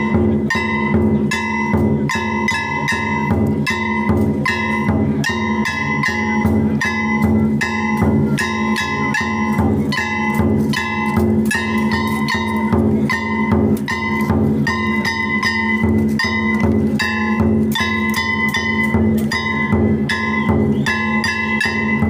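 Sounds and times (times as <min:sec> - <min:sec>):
large drum beaten in rhythm: 0:00.0 - 0:22.0.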